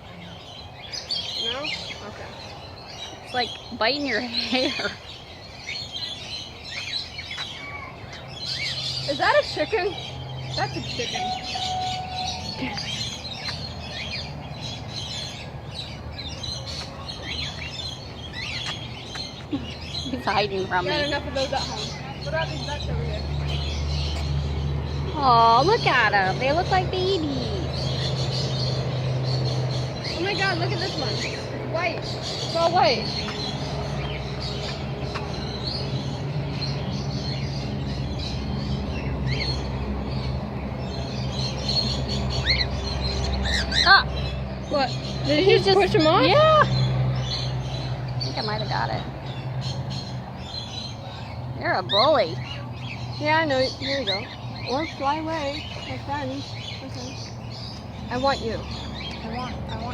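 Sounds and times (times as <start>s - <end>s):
birds chirping and chattering: 0.0s - 59.9s.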